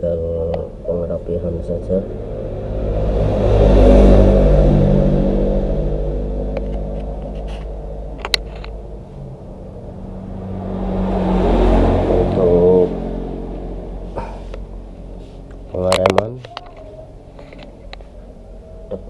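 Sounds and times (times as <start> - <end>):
vehicle engines passing by: 0.0 - 19.0.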